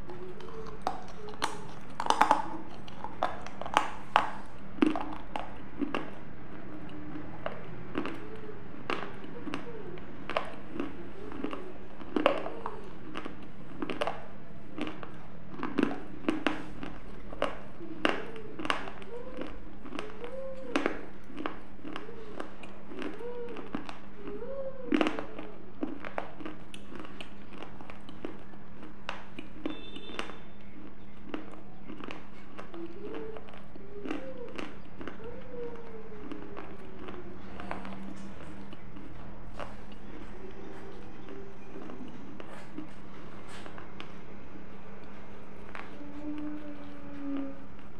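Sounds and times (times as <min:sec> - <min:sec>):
lip smacks and mouth clicks: 0:00.0 - 0:47.9
low electrical hum: 0:00.0 - 0:47.9.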